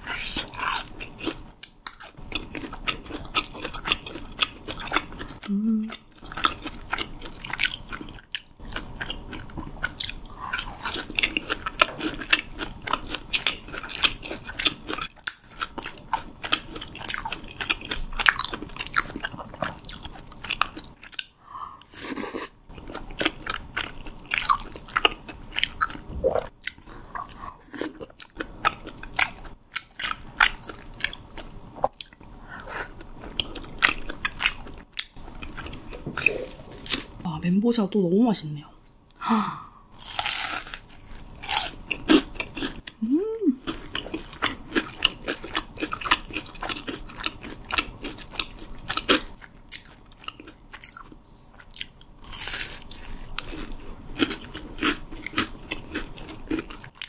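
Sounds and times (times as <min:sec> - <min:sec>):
crunching and chewing fried food: 0:00.3 - 0:21.4, 0:22.1 - 0:37.2, 0:40.0 - 0:57.0.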